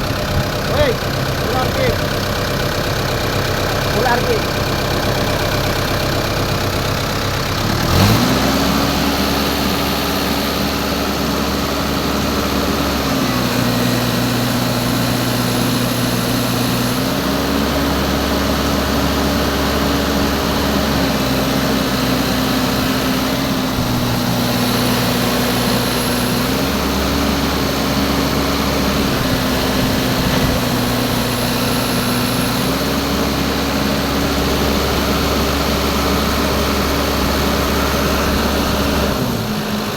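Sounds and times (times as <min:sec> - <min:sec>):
machine engine revving: 0:00.0 - 0:39.9.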